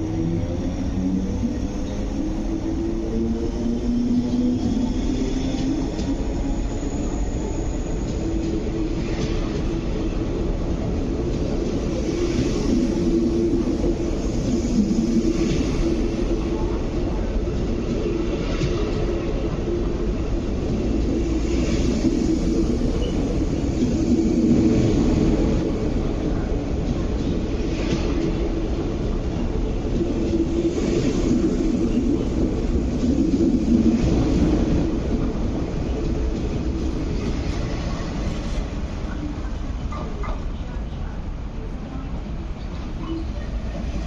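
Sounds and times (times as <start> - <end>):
electric train rumbling with hum: 0.0 - 44.0.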